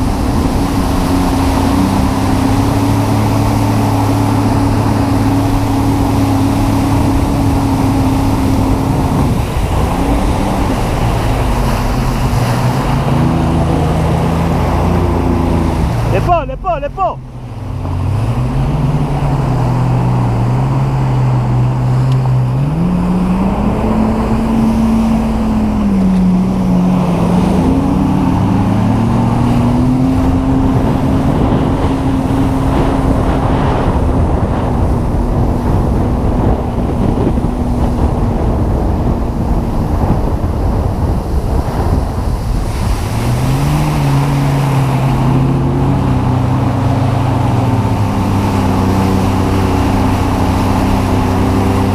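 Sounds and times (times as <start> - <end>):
watercraft engine revving: 0.0 - 51.9
wind on microphone: 0.0 - 51.9.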